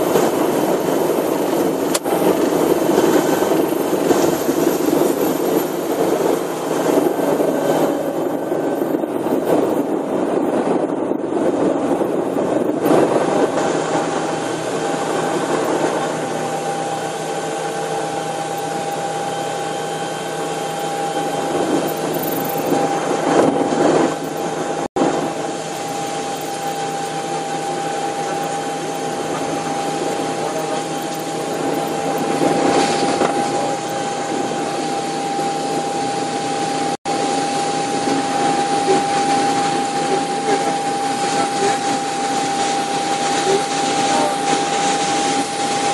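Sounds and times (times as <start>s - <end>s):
helicopter turbine and rotor noise: 0.0s - 45.9s
thin steady whine: 0.0s - 45.9s.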